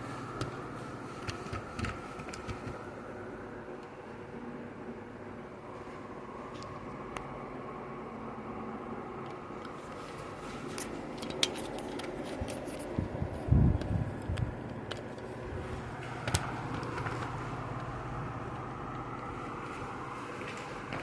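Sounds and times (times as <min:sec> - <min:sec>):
table fan running: 0:00.0 - 0:21.0.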